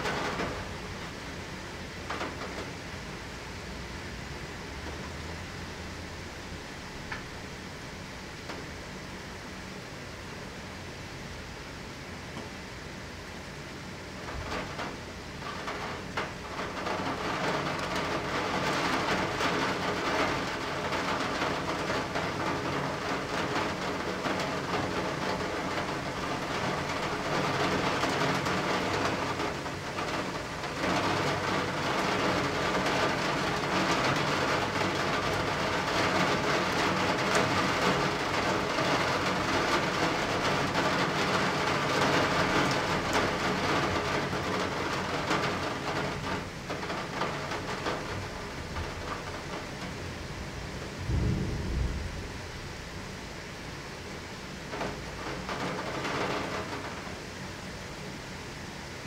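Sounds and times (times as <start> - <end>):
rain through a closed window: 0.0 - 59.0.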